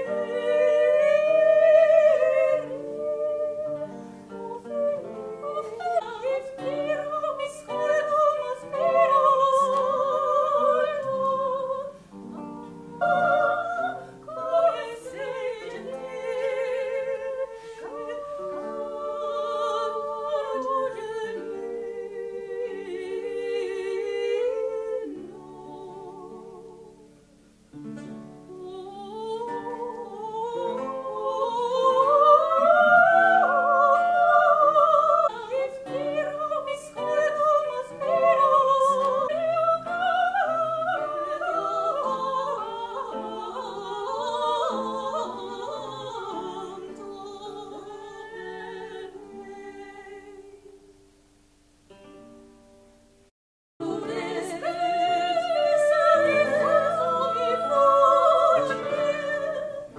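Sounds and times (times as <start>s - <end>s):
woman singing classical: 0.0s - 27.4s, 28.3s - 51.0s, 53.8s - 59.9s.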